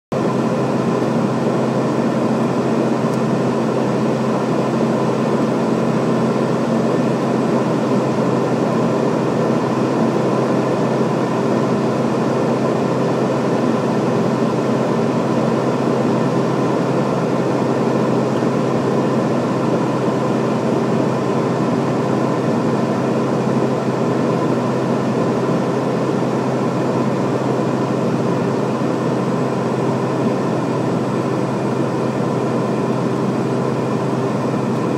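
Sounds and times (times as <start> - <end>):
turboprop engines droning: 0.1 - 34.9.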